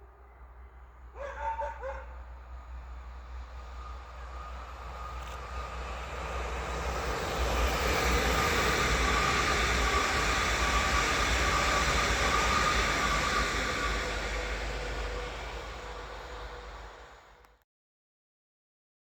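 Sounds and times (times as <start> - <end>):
high whine: 0.0 - 17.5
train wheels rumbling on rails: 0.0 - 17.5.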